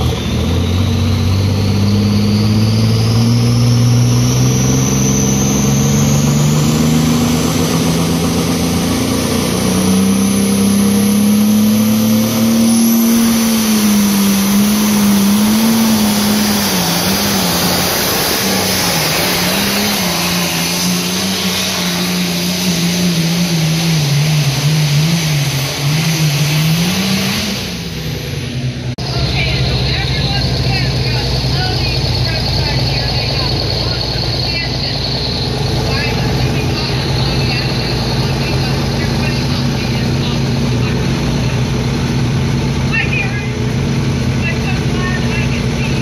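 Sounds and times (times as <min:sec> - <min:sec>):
high engine whine: 0:00.0 - 0:46.0
tractor engine running hard: 0:00.0 - 0:46.0.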